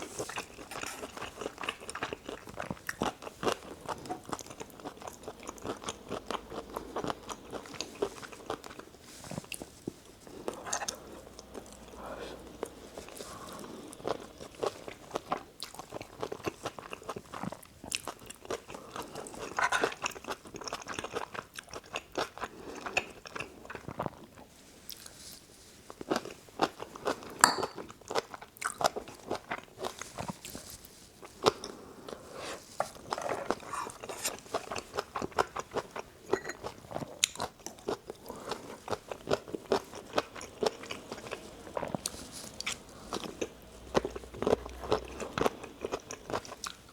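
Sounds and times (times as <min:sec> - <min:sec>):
person chewing food: 0:00.0 - 0:25.2, 0:25.9 - 0:46.9.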